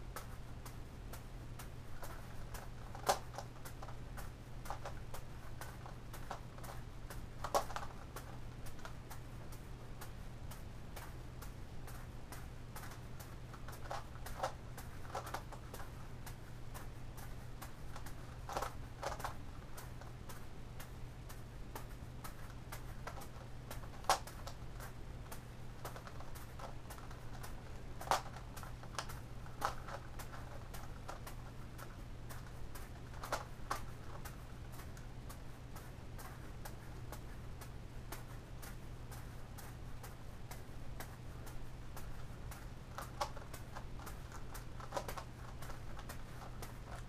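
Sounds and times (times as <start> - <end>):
low steady hum: 0.0 - 47.0
puzzle layers clicking: 0.1 - 47.0.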